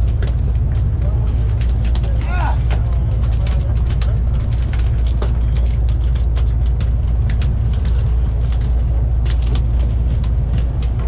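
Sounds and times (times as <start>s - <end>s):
boat engines rumbling: 0.0s - 11.0s.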